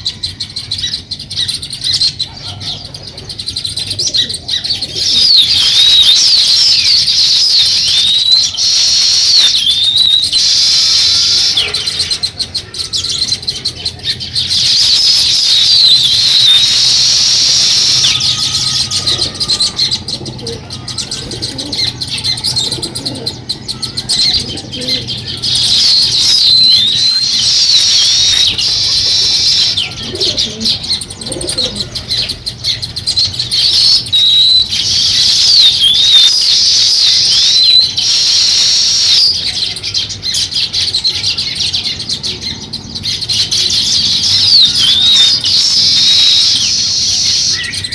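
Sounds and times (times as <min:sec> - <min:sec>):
flock of small birds chirping: 0:00.0 - 0:47.9.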